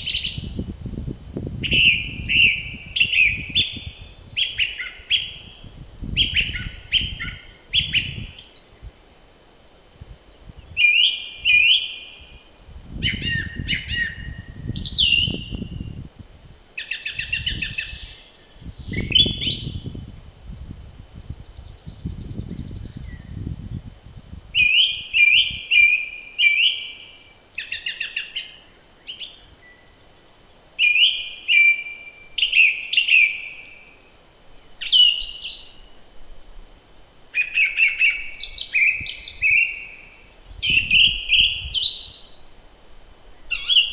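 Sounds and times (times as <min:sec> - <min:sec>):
wind rumble on microphone: 0:00.0 - 0:26.0, 0:34.2 - 0:43.9
songbirds singing: 0:00.0 - 0:43.9.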